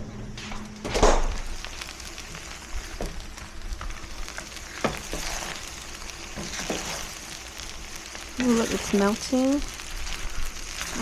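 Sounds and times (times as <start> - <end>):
rice sizzling in a pan: 1.1 - 11.0.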